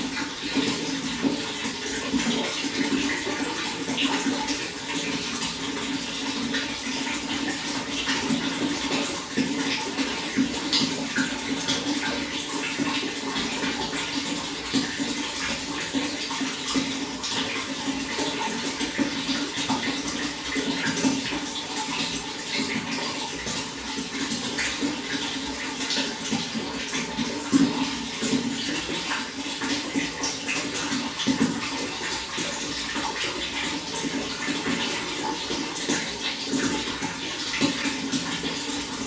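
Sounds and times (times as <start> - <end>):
low gurgling water: 0.0 - 39.0
running water splashing: 0.0 - 39.0.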